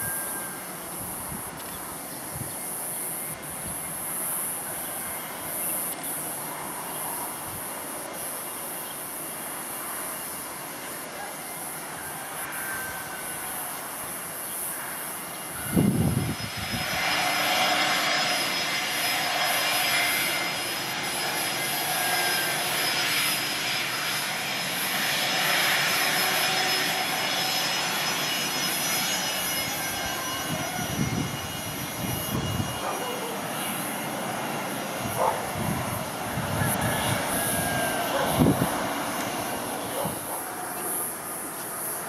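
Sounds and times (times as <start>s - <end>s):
jet engine whine: 0.0s - 42.0s.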